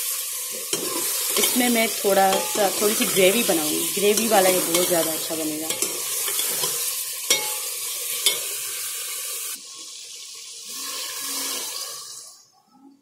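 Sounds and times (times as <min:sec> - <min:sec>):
curry sizzling in metal pot: 0:00.0 - 0:12.3.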